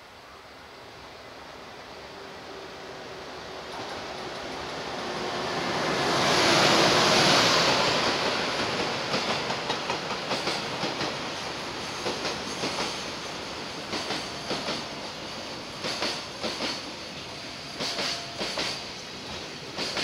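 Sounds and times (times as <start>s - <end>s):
electric locomotive passing: 0.1s - 20.0s.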